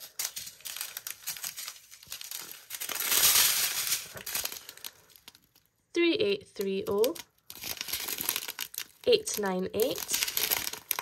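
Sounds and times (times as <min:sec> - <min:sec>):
plastic bags crinkling: 0:00.0 - 0:05.8, 0:06.6 - 0:11.0.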